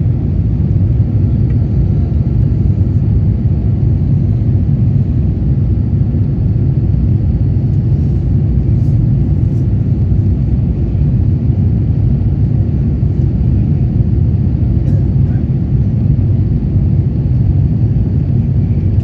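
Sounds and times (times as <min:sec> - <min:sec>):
jet engine rumble in cabin: 0:00.0 - 0:19.0.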